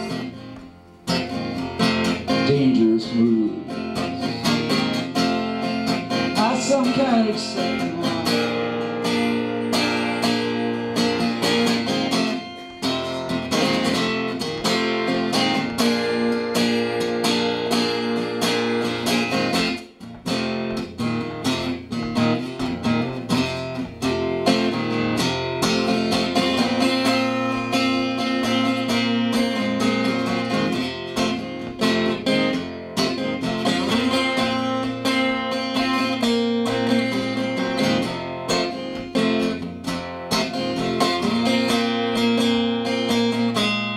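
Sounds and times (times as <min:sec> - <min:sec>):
acoustic guitar strumming: 0:00.0 - 0:43.9.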